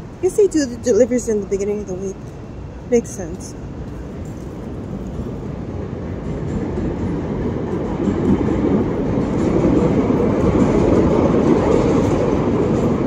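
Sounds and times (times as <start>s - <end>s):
train rumbling along tracks: 0.0s - 13.0s.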